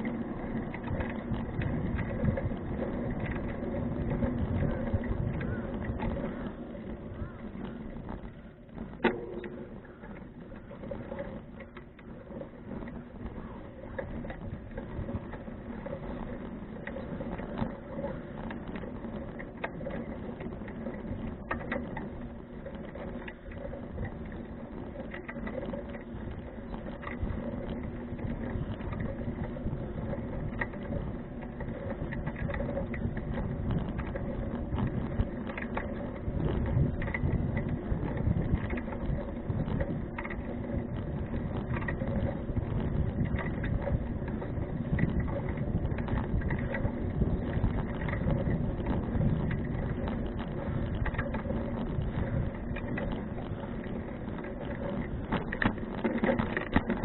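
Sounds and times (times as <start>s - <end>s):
bicycle rattling: 0.0s - 57.0s
bicycle tyre rumble on road: 0.0s - 57.0s.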